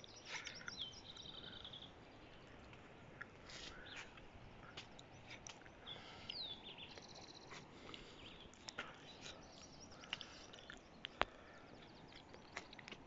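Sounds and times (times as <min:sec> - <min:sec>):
faint bird chirps: 0:00.0 - 0:12.9.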